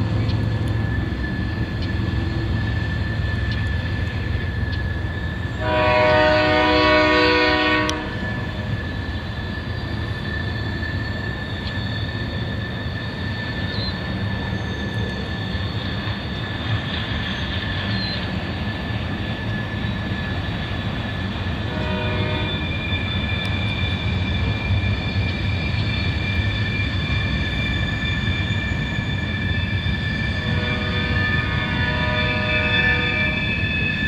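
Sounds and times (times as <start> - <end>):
high wheel squeal: 0.0 - 34.0
wheels rumbling on rail: 0.0 - 34.0.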